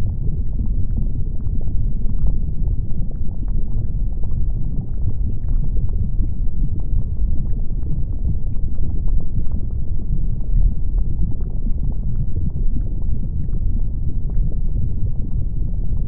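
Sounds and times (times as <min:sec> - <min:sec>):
lava crackles and pops: 0:00.0 - 0:16.0
volcano deep rumble: 0:00.0 - 0:16.0.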